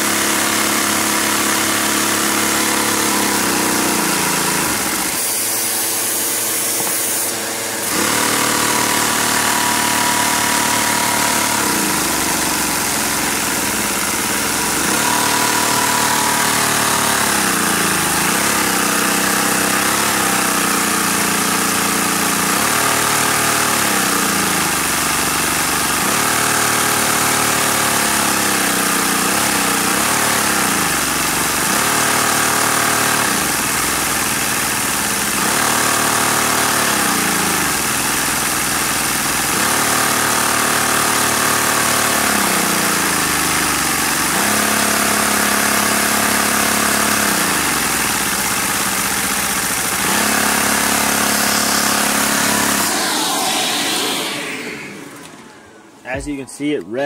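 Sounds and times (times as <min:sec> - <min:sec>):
toy engine running: 0:00.0 - 0:54.8.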